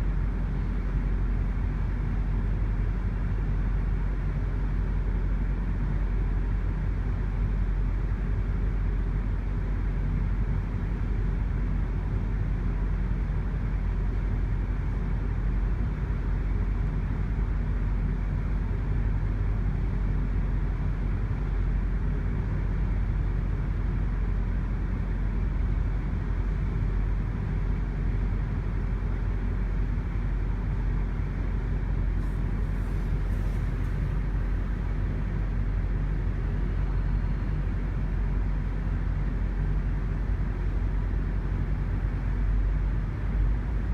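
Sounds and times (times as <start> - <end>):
diesel locomotive rumble: 0.0 - 43.9.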